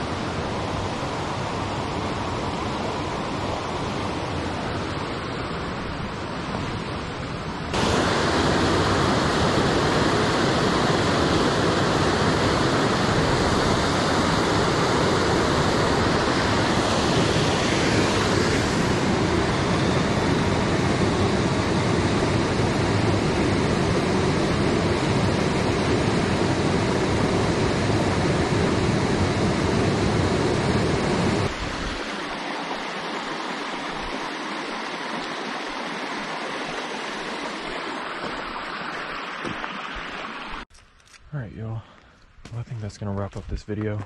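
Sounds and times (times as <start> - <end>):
steady rushing noise: 0.0 - 40.6.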